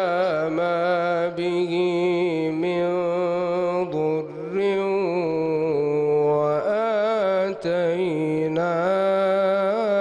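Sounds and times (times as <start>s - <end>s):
man chanting melodic recitation: 0.0s - 10.0s.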